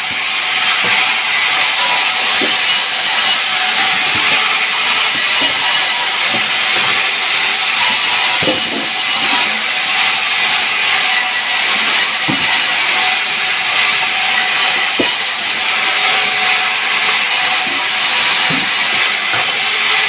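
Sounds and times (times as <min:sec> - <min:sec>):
sawmill saw hissing and whining: 0:00.0 - 0:20.0.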